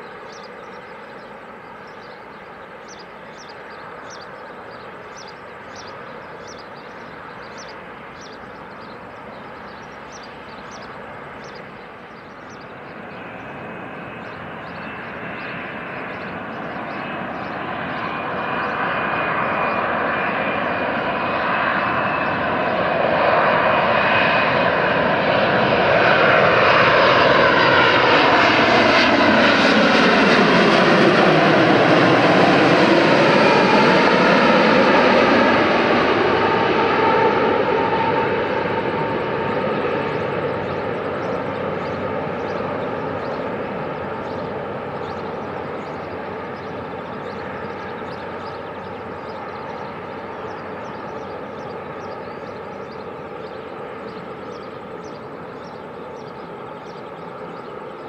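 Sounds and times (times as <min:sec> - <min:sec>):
jet engines passing overhead: 0:00.0 - 0:58.0.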